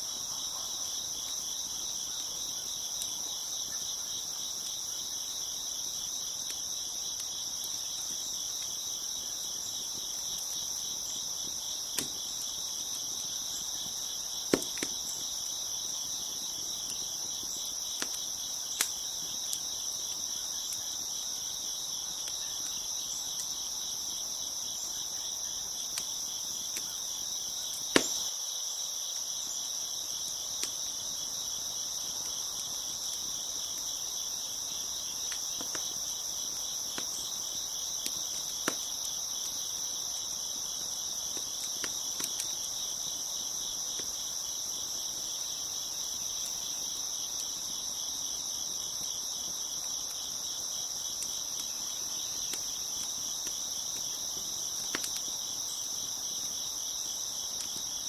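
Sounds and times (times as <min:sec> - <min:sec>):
crickets chirping: 0:00.0 - 0:58.0
wood fire popping and crackling: 0:00.1 - 0:28.4, 0:30.0 - 0:58.0.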